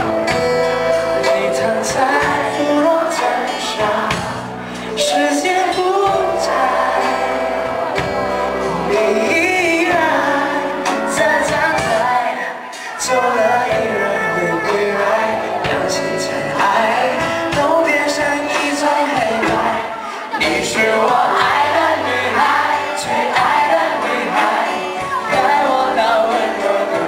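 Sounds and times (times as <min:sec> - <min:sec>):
band playing bass and keyboard: 0:00.0 - 0:27.0
man singing into a microphone: 0:00.0 - 0:27.0.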